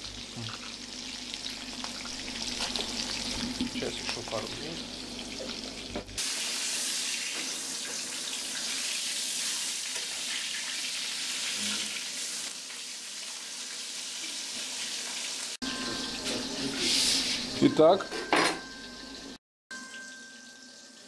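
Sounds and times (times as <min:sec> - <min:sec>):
fish sizzling in a pan: 0:00.0 - 0:17.7.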